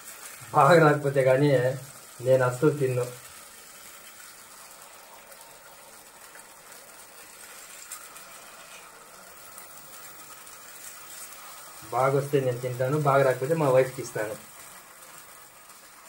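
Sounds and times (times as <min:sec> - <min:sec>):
batter frying in oil: 0:00.0 - 0:16.0.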